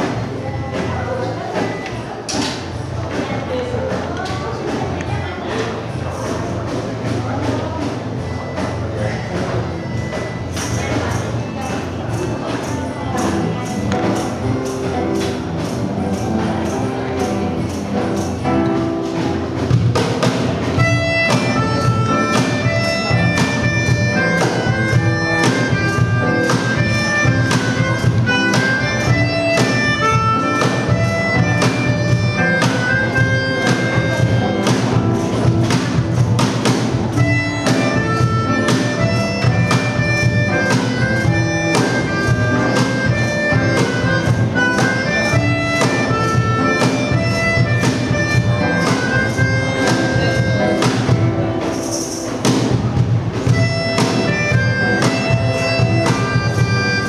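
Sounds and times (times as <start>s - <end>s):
acoustic guitar chords: 0.0s - 57.0s
cajon beat: 0.0s - 57.0s
reedy melodica melody: 7.8s - 57.0s.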